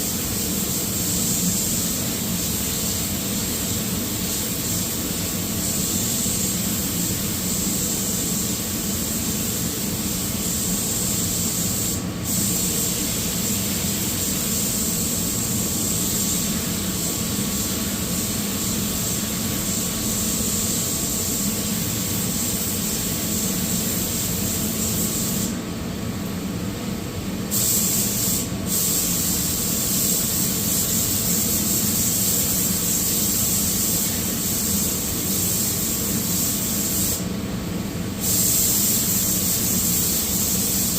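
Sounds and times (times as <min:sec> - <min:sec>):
paint spray gun hissing: 0:00.0 - 0:25.6, 0:27.4 - 0:37.3, 0:38.2 - 0:40.9.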